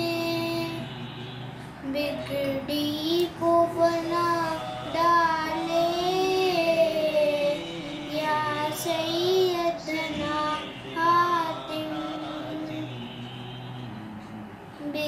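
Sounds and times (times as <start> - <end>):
girl singing unaccompanied: 0.0 - 1.2, 1.8 - 13.0, 14.8 - 15.0.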